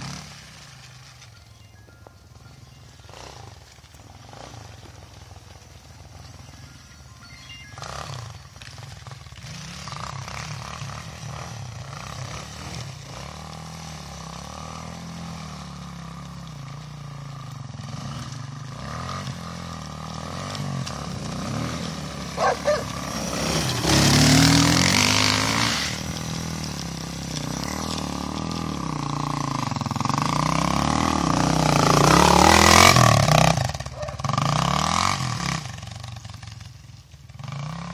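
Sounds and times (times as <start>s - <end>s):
dirt bike engine revving: 0.0s - 1.1s, 2.8s - 6.9s, 7.5s - 37.9s.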